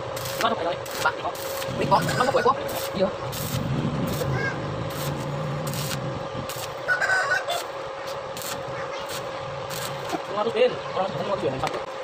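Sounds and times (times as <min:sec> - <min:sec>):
arc welder crackling and sizzling: 0:00.0 - 0:10.7.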